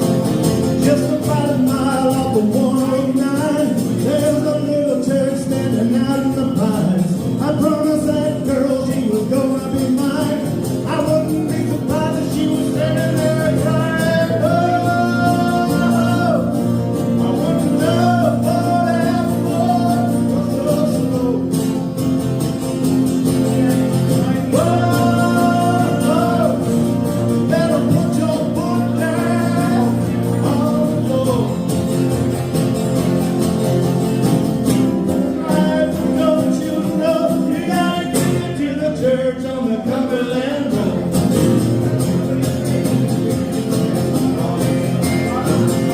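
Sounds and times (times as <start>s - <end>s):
man singing: 0.0s - 22.0s, 23.0s - 32.3s, 34.6s - 45.9s
strummed acoustic guitar: 0.0s - 45.9s.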